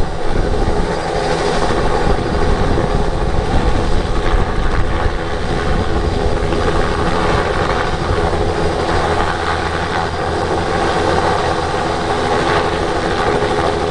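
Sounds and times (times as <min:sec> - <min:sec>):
helicopter engine whine: 0:00.0 - 0:13.9
helicopter rotor beating: 0:00.0 - 0:13.9.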